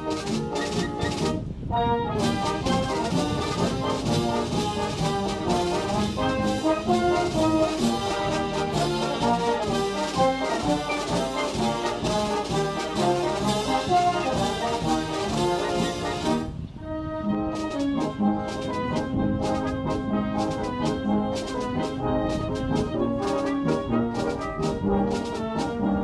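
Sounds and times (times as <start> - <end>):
military brass band playing: 0.0 - 26.0.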